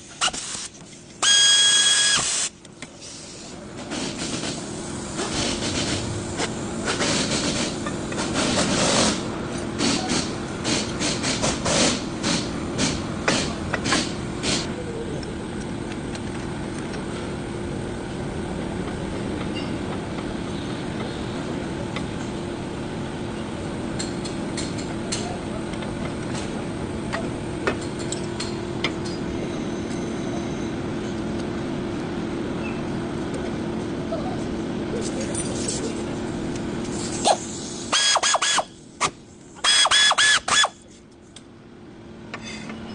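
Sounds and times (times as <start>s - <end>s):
vehicle engine rumble: 2.2s - 39.9s, 40.6s - 42.9s.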